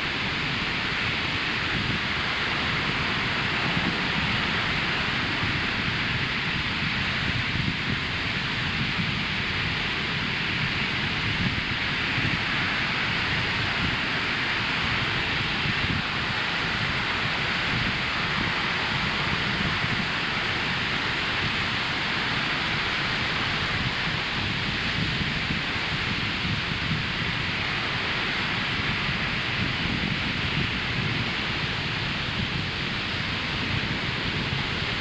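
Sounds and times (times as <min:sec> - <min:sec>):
ocean surf on sandy beach: 0:00.0 - 0:35.0.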